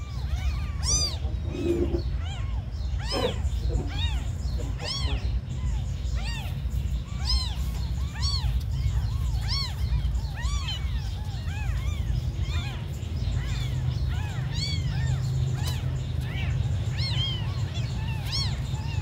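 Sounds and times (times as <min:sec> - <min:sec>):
newborn kittens mewing: 0:00.0 - 0:19.0.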